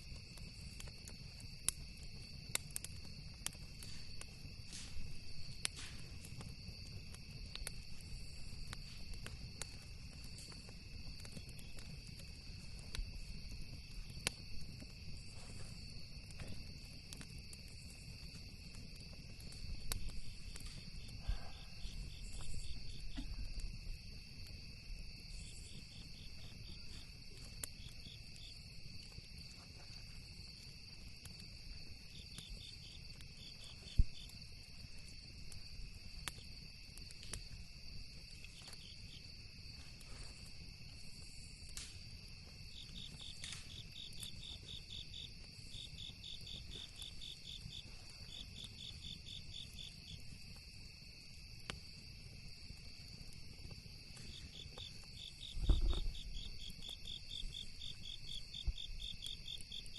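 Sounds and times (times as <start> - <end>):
campfire crackling and popping: 0.0 - 59.9
insects trilling: 0.0 - 59.9.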